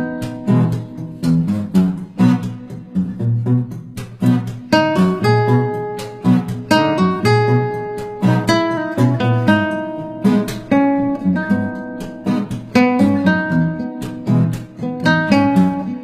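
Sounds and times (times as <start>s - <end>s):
acoustic guitar strumming and plucking: 0.0s - 16.0s.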